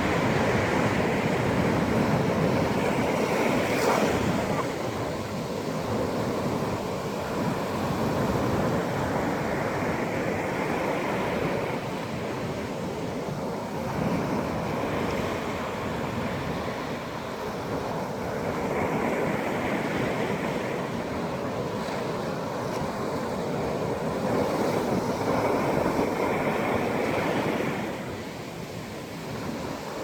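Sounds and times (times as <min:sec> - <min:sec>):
sea waves breaking on beach: 0:00.0 - 0:30.0.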